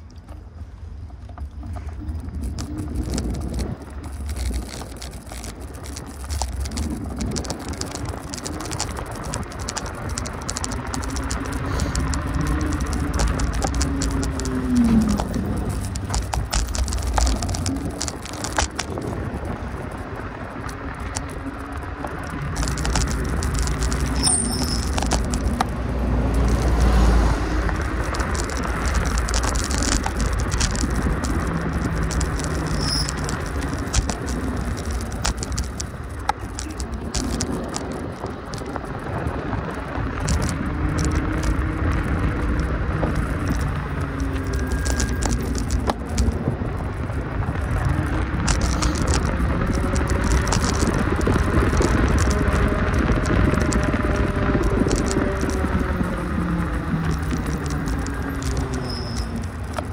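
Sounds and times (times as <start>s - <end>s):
small clicks and clatter: 0.0s - 59.9s
vehicle rumbling and rattling: 0.0s - 59.9s.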